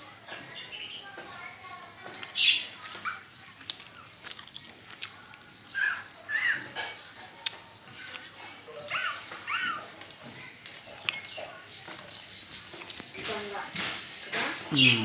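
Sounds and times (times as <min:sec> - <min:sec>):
lovebirds chirping: 0:00.3 - 0:15.0.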